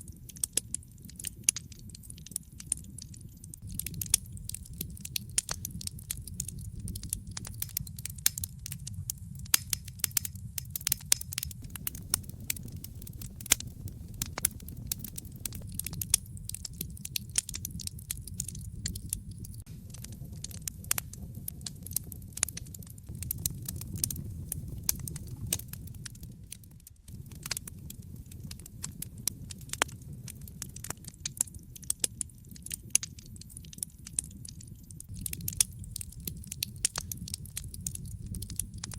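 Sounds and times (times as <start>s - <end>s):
wood fire crackling: 0.1s - 38.9s.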